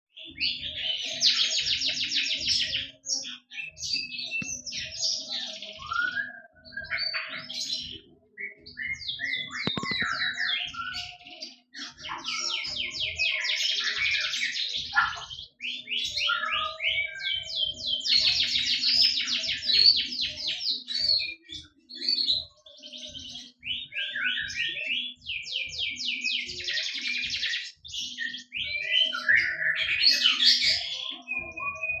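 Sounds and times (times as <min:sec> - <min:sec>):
songbird singing trills: 0:00.1 - 0:32.0.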